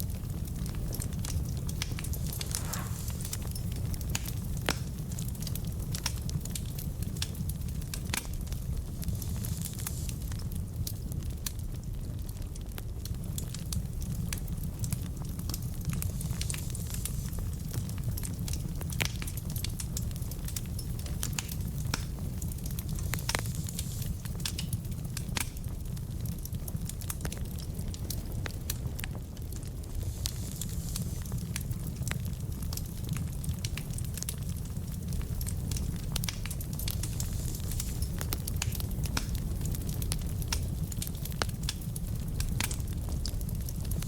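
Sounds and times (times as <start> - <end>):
sharp fire pops: 0.0 - 11.7, 12.4 - 44.0
log fire crackling: 0.0 - 44.0
low fire rumble: 0.0 - 44.0.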